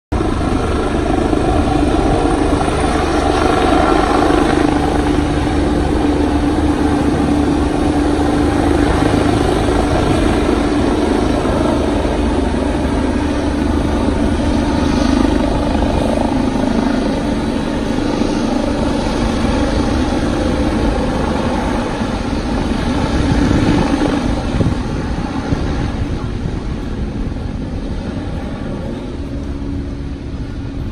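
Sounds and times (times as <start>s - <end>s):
helicopter rotor and engines: 0.1s - 30.9s.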